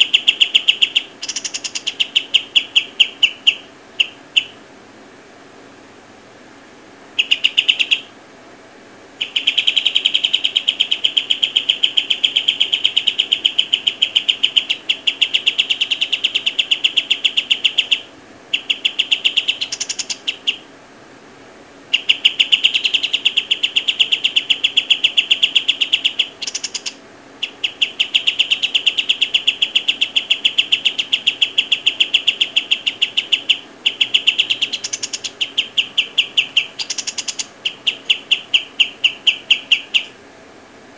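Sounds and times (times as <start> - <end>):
high rapid chirps: 0.0 - 4.6, 7.2 - 8.1, 9.2 - 20.7, 21.9 - 40.2.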